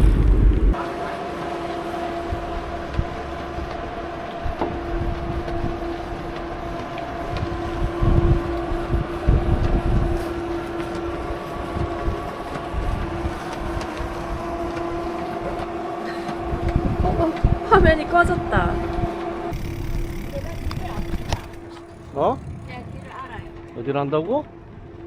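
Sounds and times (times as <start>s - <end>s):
wind buffeting microphone: 0.0s - 0.8s, 1.8s - 25.0s
bike humming whine: 0.0s - 24.0s.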